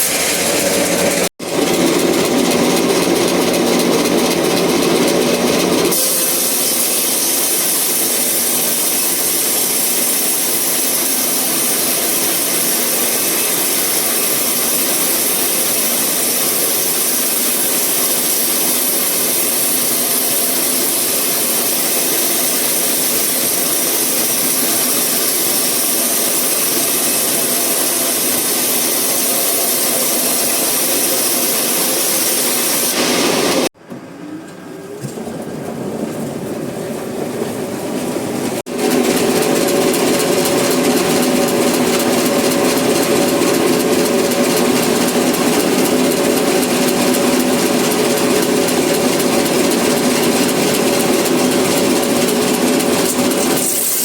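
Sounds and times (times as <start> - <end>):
saw cutting through log: 0.0 - 33.8, 38.6 - 54.0.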